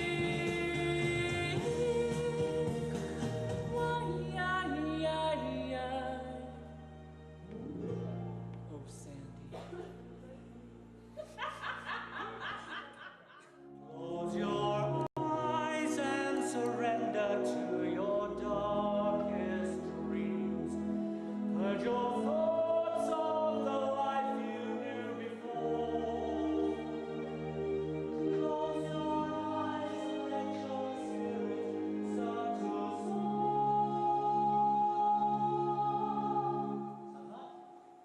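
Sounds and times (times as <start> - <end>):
vocal group singing in harmony: 0.0 - 6.6, 13.4 - 38.0.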